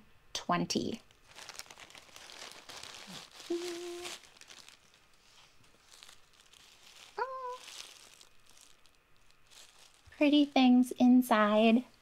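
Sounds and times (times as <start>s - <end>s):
plastic and tissue paper crinkling: 1.0s - 12.0s.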